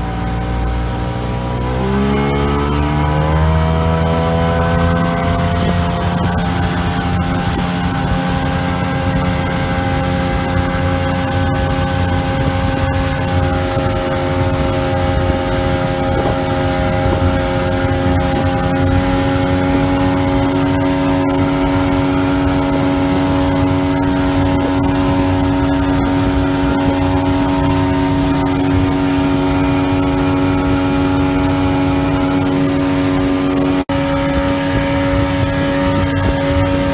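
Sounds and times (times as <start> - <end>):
outboard motor running: 0.0 - 36.9
rushing water noise: 0.0 - 36.9.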